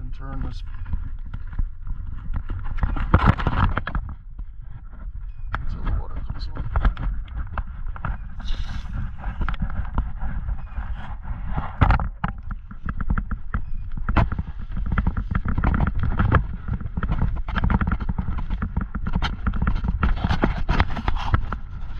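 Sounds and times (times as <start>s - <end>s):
camera rubbing against clothing: 0.0s - 21.9s
footsteps on dirt and gravel: 0.0s - 21.9s.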